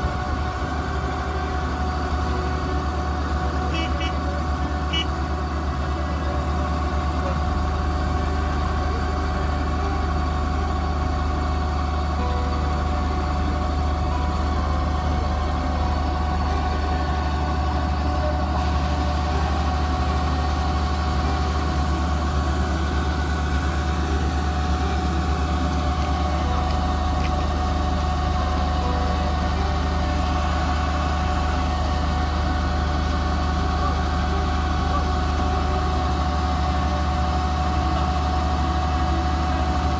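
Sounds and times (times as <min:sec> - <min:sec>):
combine harvester engine hum: 0:00.0 - 0:39.9
steady whining tones: 0:00.0 - 0:39.9.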